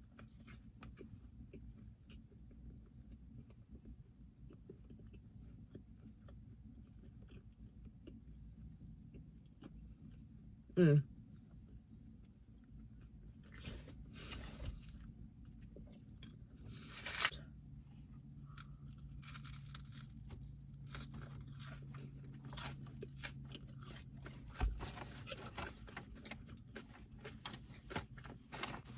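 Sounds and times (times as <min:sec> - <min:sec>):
food being chewed and crunched: 0:00.0 - 0:10.5, 0:11.5 - 0:28.9.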